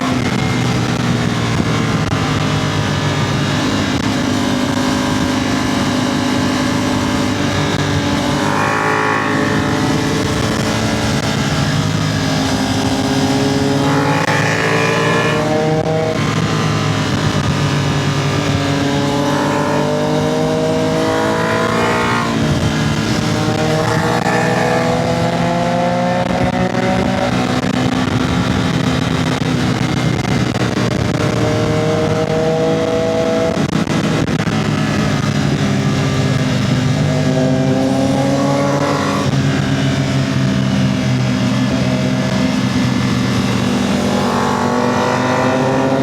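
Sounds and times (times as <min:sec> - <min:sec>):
motorcycle engine accelerating: 0:00.0 - 0:46.0
wind rush: 0:00.0 - 0:46.0.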